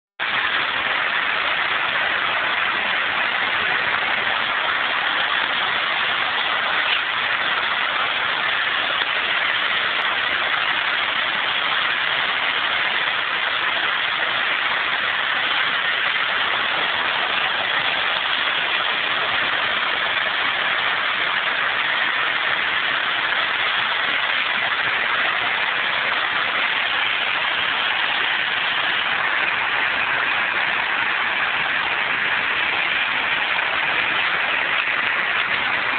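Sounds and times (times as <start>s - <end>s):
waves breaking on a sandy beach: 0.2s - 35.9s.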